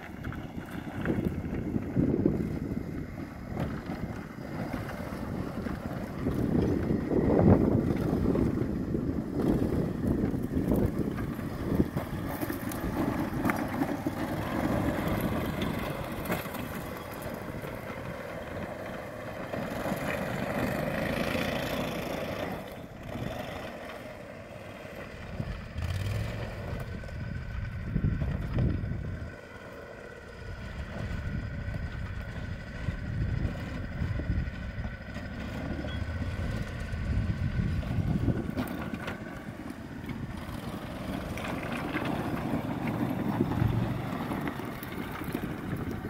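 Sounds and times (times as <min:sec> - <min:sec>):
atv engine under load: 0:00.0 - 0:46.0.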